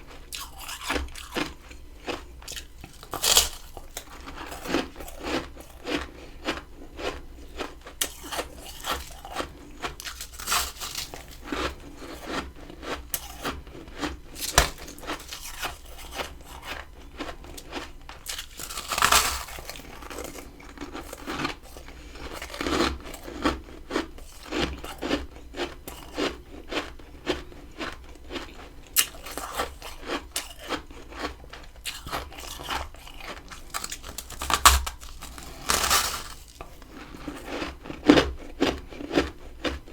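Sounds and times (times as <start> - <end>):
chewing ice crunches: 0.0 - 39.9.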